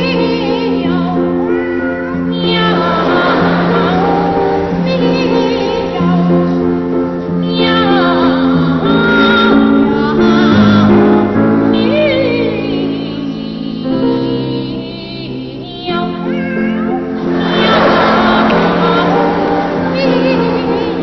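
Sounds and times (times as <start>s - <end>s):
boy sopranos singing: 0.0s - 21.0s
grand piano: 0.0s - 21.0s.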